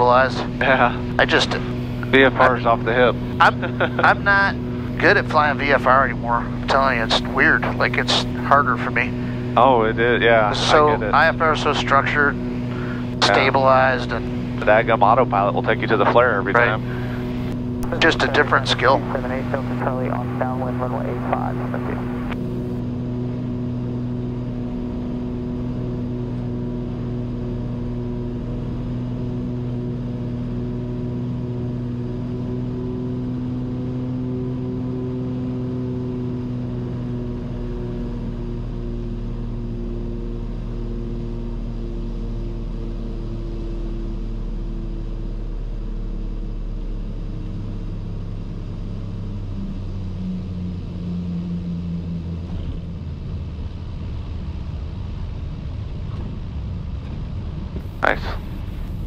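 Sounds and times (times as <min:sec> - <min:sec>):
twin propeller engines droning: 0:00.0 - 0:59.0.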